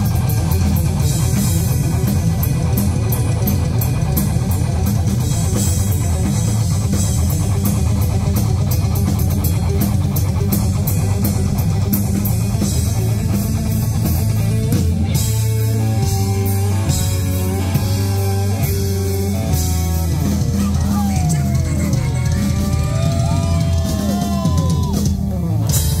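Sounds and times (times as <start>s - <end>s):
lead guitar bent notes: 0.0s - 24.0s
live rock band playing: 0.0s - 26.0s.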